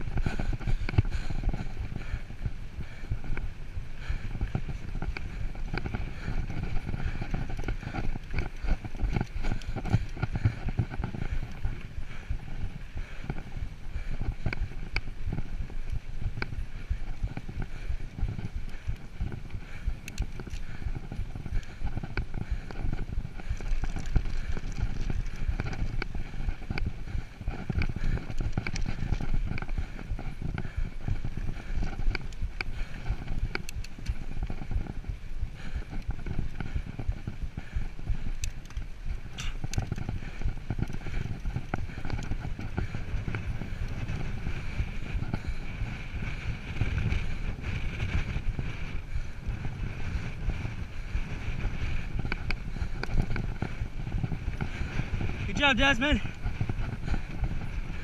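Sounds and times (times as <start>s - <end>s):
bike clicks and rattles: 0.0s - 58.0s
bike tyres rumbling on dirt: 0.0s - 58.0s
wind on microphone: 0.0s - 58.0s.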